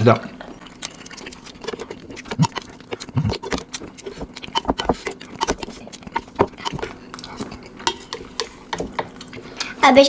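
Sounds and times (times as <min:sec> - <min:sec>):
slurping: 0:00.4 - 0:09.8.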